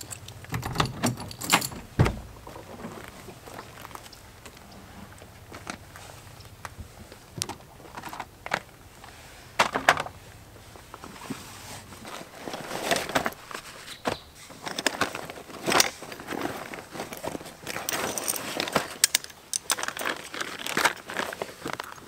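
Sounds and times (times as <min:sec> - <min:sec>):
camping gear knocking and clattering: 0:00.0 - 0:06.0, 0:06.6 - 0:08.9, 0:09.5 - 0:10.2, 0:10.8 - 0:22.0
rustling: 0:00.0 - 0:22.0.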